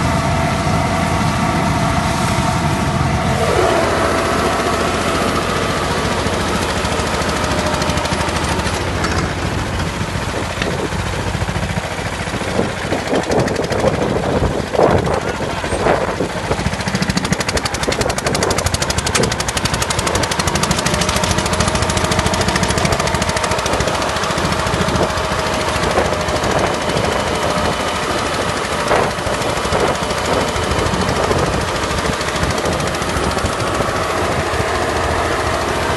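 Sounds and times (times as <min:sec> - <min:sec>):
tractor diesel engine clattering: 0:00.0 - 0:35.9.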